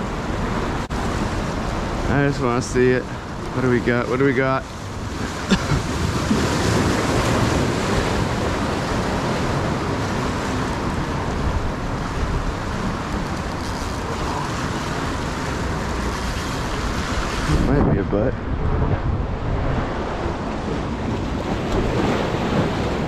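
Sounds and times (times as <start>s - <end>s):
waves breaking against rocks: 0.0s - 23.0s.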